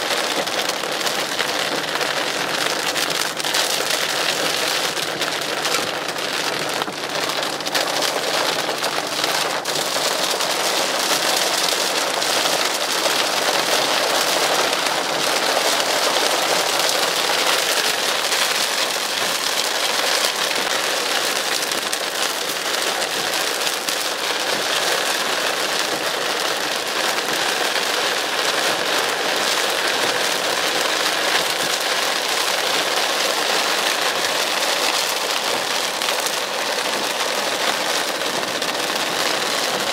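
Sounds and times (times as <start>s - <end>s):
heavy rain on car windshield: 0.0s - 39.9s.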